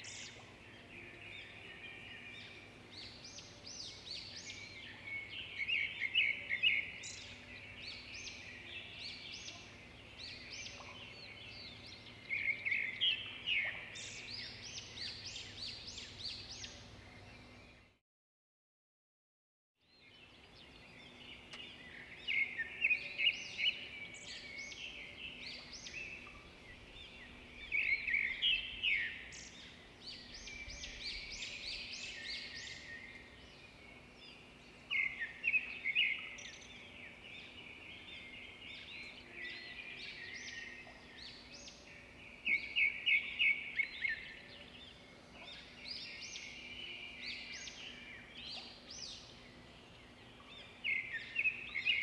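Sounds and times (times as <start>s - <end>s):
songbirds chirping and twittering: 0.0s - 18.0s, 19.8s - 52.0s.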